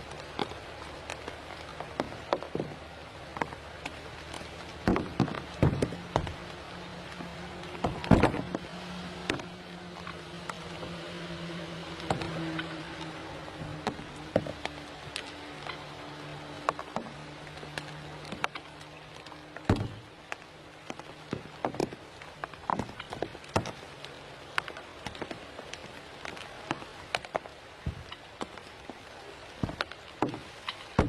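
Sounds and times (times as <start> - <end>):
low motor-like hum: 0.0 - 31.0.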